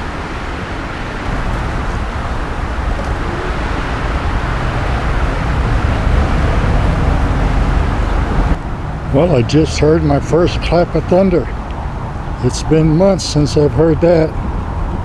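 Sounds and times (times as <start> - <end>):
distant thunder rumble: 0.0 - 15.0
wind buffeting microphone: 0.0 - 15.0.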